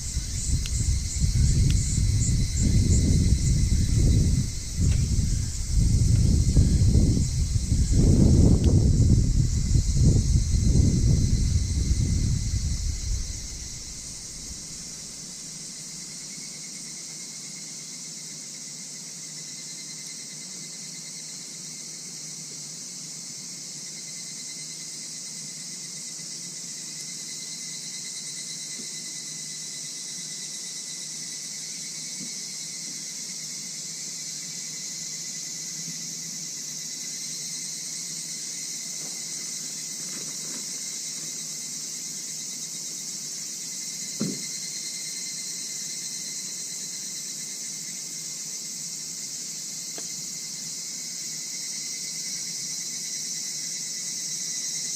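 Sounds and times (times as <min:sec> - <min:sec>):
crickets and insects trilling: 0:00.0 - 0:54.9.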